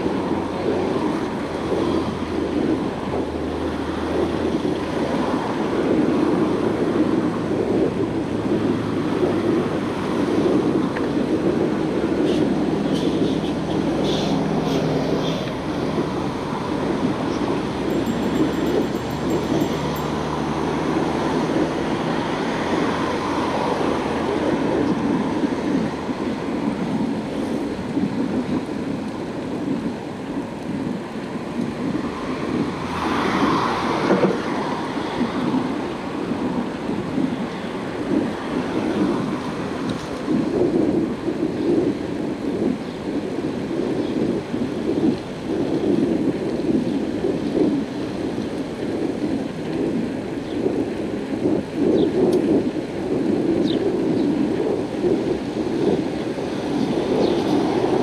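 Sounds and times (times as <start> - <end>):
tyre and road noise: 0.0 - 58.0
wind buffeting microphone: 0.0 - 58.0.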